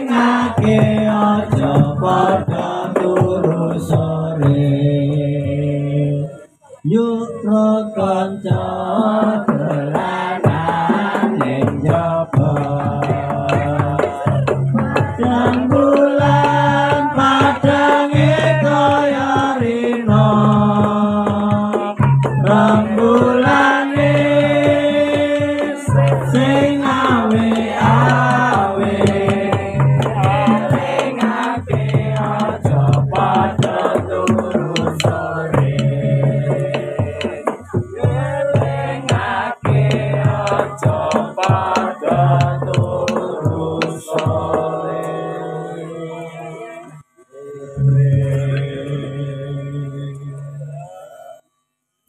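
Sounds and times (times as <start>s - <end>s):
drum strokes: 0.0s - 6.1s, 7.6s - 50.8s
accompaniment music: 0.0s - 6.6s, 7.6s - 51.5s
person singing long notes: 0.0s - 51.5s.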